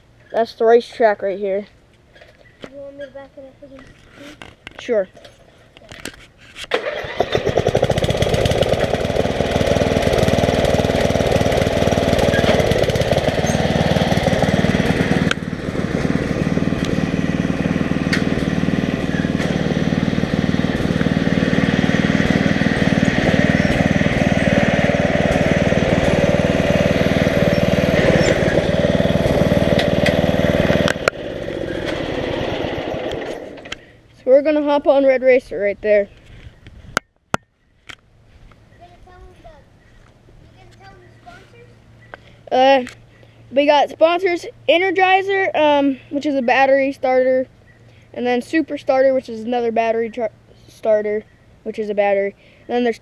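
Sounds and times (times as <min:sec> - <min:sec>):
riding lawn mower engine: 0:01.8 - 0:36.7, 0:39.7 - 0:53.0.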